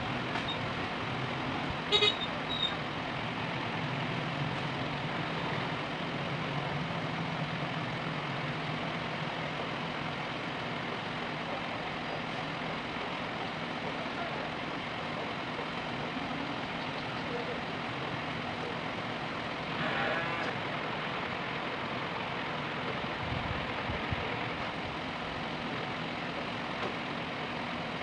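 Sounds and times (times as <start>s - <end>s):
broad background noise: 0.0s - 28.0s
engine idling: 0.0s - 28.0s.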